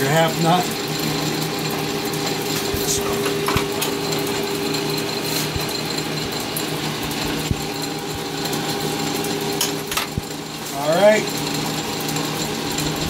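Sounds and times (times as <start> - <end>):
metal lathe whirring: 0.0 - 13.0.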